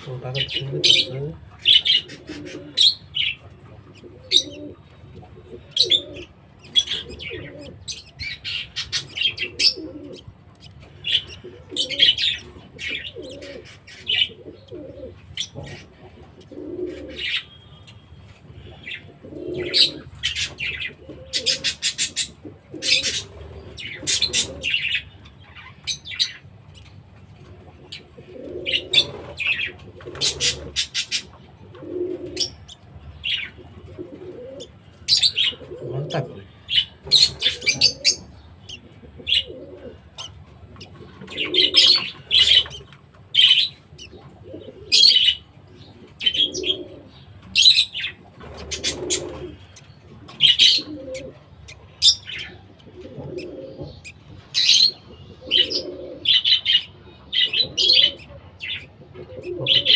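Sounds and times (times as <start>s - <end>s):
doves cooing: 0.0s - 17.8s, 18.5s - 25.2s, 27.2s - 59.9s
budgerigars chirping: 0.0s - 26.9s, 27.5s - 59.9s.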